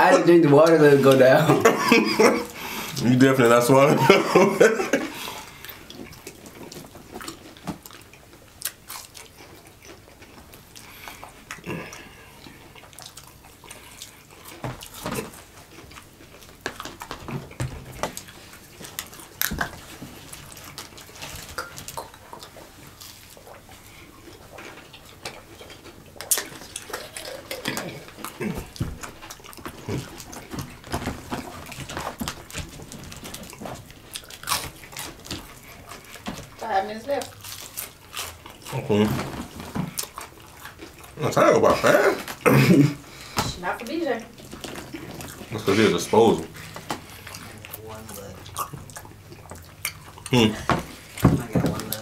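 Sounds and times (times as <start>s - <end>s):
people chewing food: 0.0s - 52.0s.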